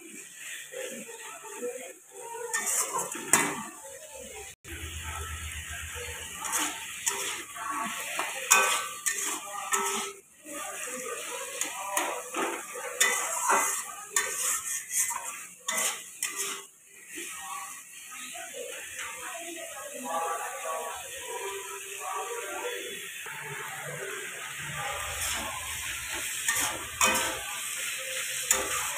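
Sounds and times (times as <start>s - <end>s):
hot oil sizzling: 0.0s - 28.9s
metal spatula scraping a pan: 0.2s - 4.0s, 5.0s - 19.3s, 22.6s - 28.9s.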